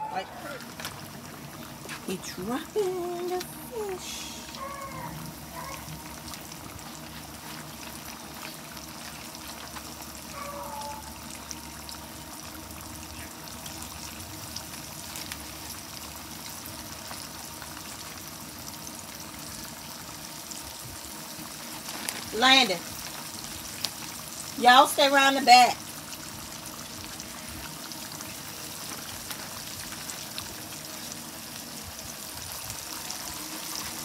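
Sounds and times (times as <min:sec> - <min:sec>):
fish frying in hot oil: 0:00.0 - 0:34.0.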